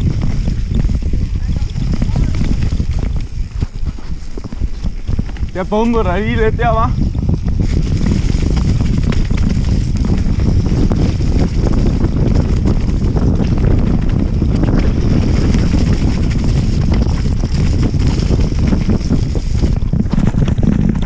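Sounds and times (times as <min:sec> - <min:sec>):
bike knocks and rattles: 0:00.0 - 0:21.0
tyre rumble: 0:00.0 - 0:21.0
wind rushing over microphone: 0:00.0 - 0:21.0.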